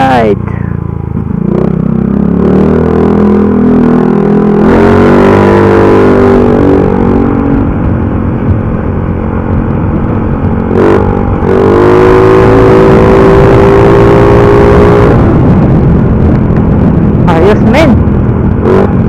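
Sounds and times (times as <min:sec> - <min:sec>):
motorcycle engine with loud exhaust: 0:00.0 - 0:19.0.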